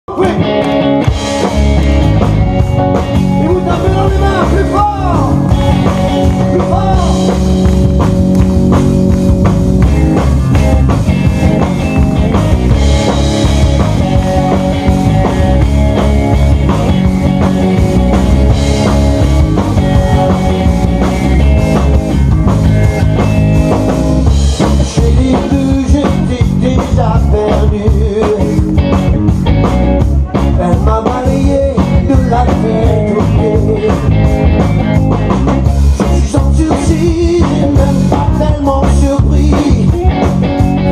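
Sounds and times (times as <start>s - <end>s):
bass guitar: 0.0s - 40.9s
electric guitar: 0.0s - 40.9s
drum kit: 0.1s - 40.9s.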